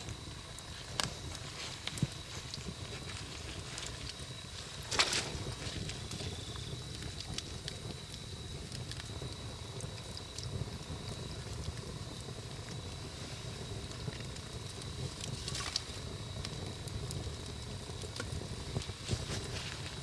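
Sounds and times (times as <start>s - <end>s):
campfire flames rumbling: 0.0s - 20.0s
faint high whine: 0.0s - 20.0s
fire crackles and pops: 0.0s - 20.0s.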